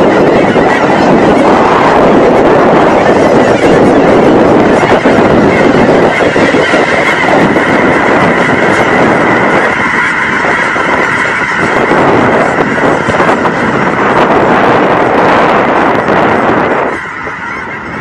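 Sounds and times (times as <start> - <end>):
flock of geese honking: 0.0 - 18.0.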